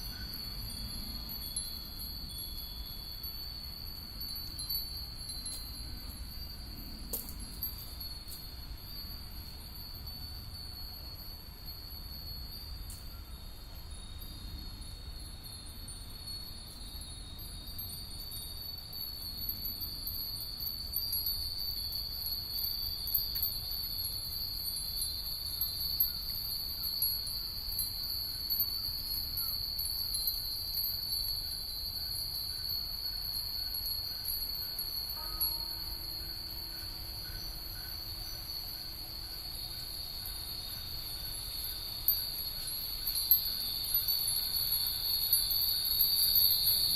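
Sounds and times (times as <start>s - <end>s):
wind bells tinkling: 0.0s - 46.9s.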